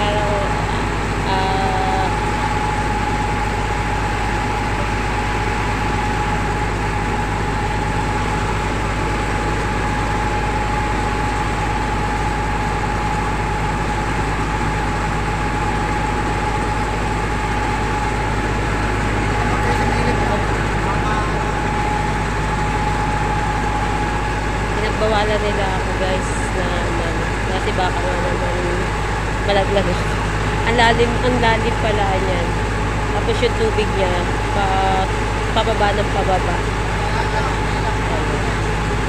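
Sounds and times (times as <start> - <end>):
truck engine and pump whining: 0.0 - 39.0.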